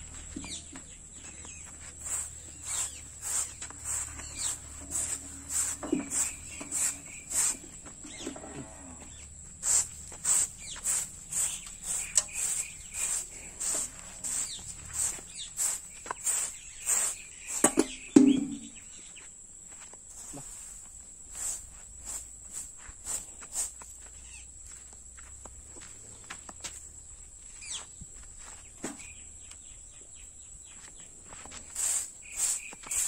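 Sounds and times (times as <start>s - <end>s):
broom sweeping dirt floor: 0.0s - 29.7s, 30.7s - 33.0s.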